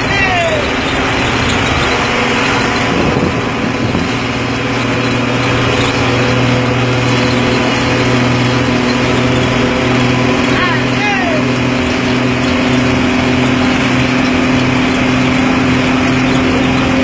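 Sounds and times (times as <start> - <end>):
diesel engine through racing exhaust: 0.0 - 17.0.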